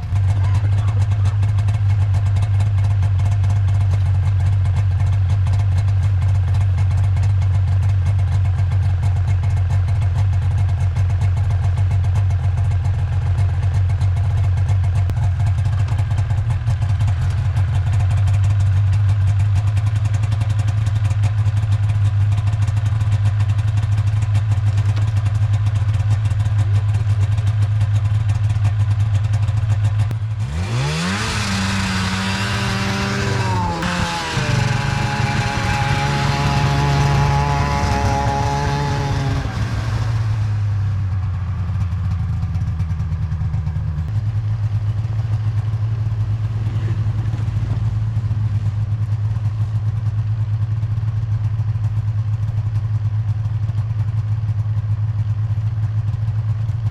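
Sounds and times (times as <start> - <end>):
snowmobile engine running: 0.0 - 55.4.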